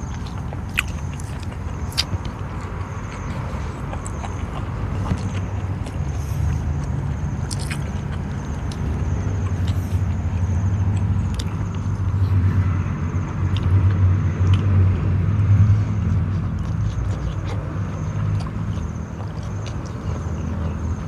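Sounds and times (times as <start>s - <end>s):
mouth clicks and chewing: 0.0s - 21.0s.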